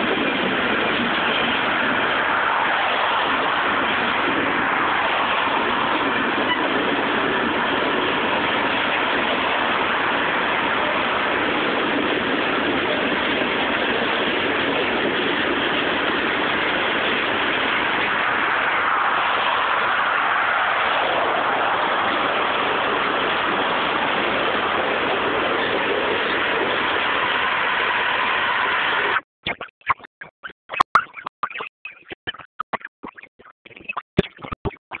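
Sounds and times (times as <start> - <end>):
freight train wheels on rails: 0.0 - 29.2.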